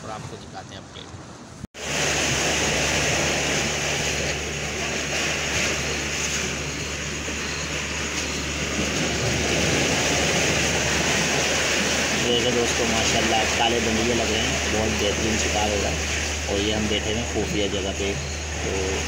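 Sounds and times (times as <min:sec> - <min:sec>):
loud mechanical drone: 0:01.8 - 0:19.0.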